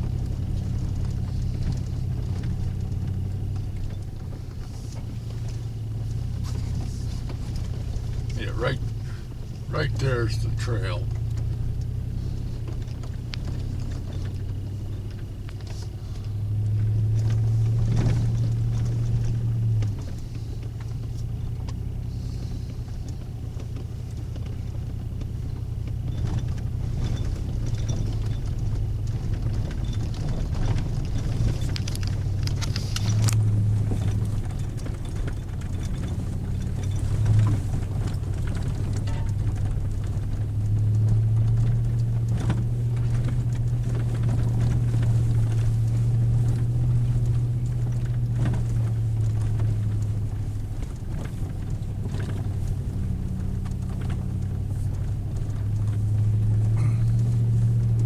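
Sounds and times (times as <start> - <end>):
knocks and rattles: 0.0 - 58.0
vehicle engine and road drone: 0.0 - 58.0.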